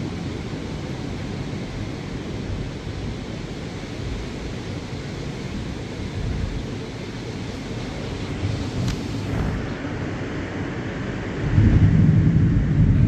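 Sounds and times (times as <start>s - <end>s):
ocean surf: 0.0s - 11.6s
storm wind: 0.0s - 13.0s.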